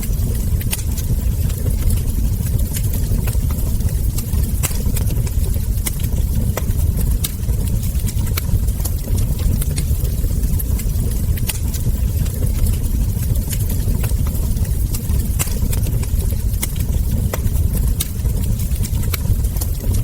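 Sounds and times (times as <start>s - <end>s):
burning logs popping: 0.0s - 20.0s
low rumble: 0.0s - 20.0s
wood fire crackling: 0.0s - 20.0s.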